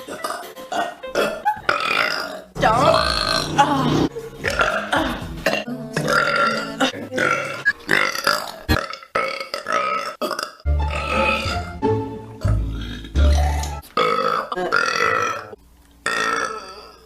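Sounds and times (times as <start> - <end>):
woman burping: 0.0 - 11.6, 12.4 - 17.0.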